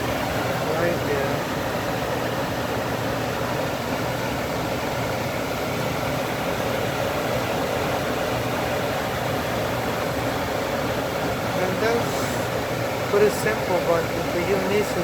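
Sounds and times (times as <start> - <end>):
gas furnace running: 0.0 - 15.0.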